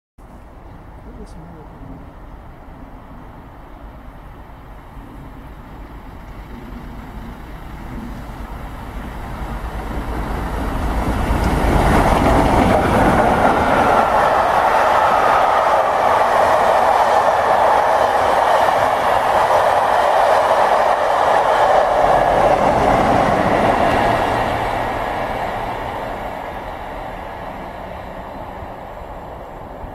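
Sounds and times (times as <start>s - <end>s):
steam locomotive passing: 0.4s - 29.9s
coach wheels on rails: 2.2s - 29.9s.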